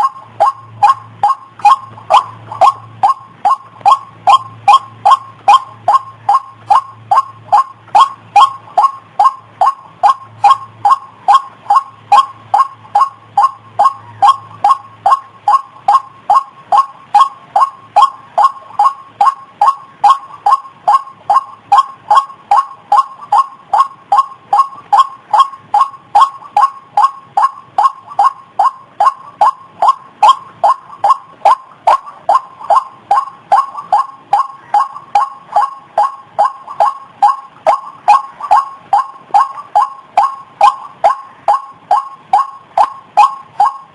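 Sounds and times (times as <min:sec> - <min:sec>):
bird calling repeated note: 0:00.0 - 0:43.9.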